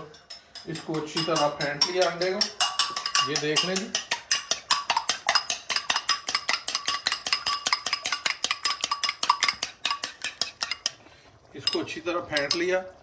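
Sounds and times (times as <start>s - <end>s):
metal utensil beating egg in bowl: 0.0s - 12.9s.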